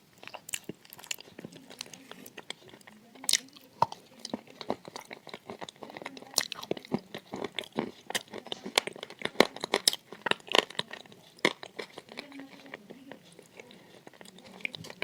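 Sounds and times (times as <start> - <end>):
soft mouth sounds: 0.0 - 15.0.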